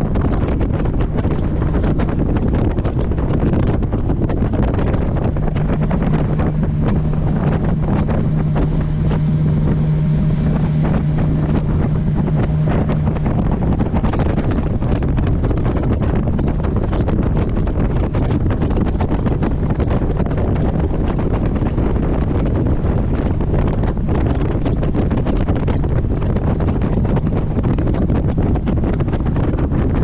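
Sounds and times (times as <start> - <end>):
low engine hum: 0.0 - 30.0
rush of boat: 0.0 - 30.0
wind buffeting microphone: 0.0 - 30.0.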